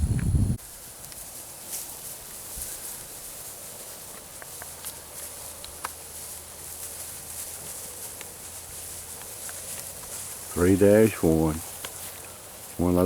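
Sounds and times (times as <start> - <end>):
steady high hiss: 0.0 - 13.0
small clicks and rustles: 0.8 - 12.8.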